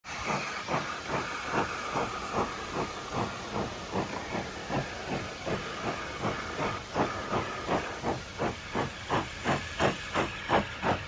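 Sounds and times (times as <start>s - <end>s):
steam hiss: 0.0s - 11.0s
steam locomotive chuffing: 0.0s - 11.0s.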